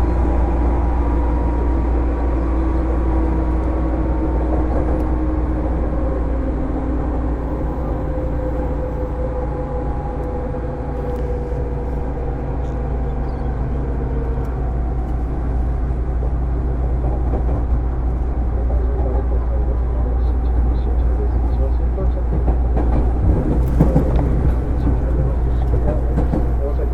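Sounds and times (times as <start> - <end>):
train wheels rumbling: 0.0 - 26.9.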